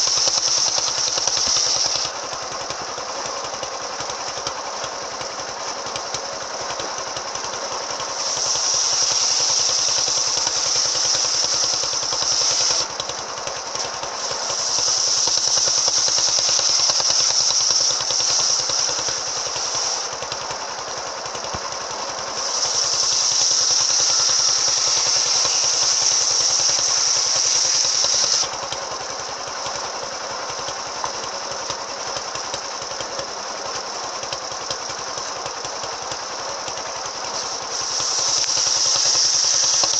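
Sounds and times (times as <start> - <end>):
circular saw running: 0.0 - 39.9
saw cutting wood hiss: 0.0 - 39.9.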